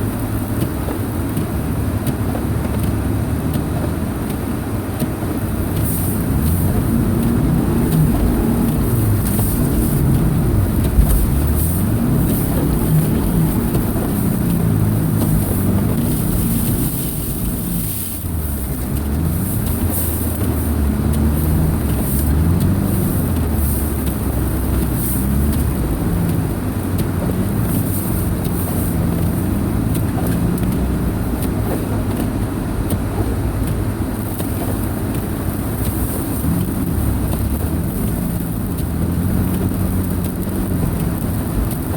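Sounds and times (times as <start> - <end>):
car engine revving: 0.0 - 41.9
road noise: 0.0 - 41.9.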